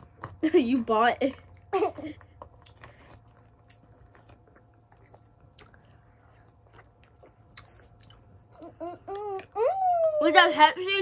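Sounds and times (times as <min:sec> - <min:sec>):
faint candy chewing: 0:00.0 - 0:09.8.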